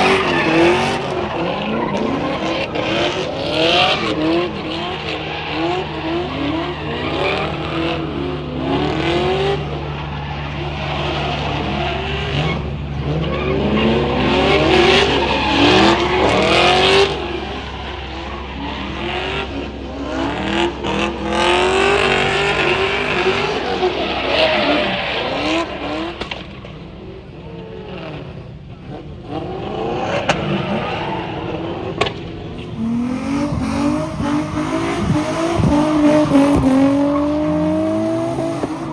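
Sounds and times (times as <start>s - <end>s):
car engines revving hard: 0.0s - 38.9s
tires squealing: 0.0s - 38.9s.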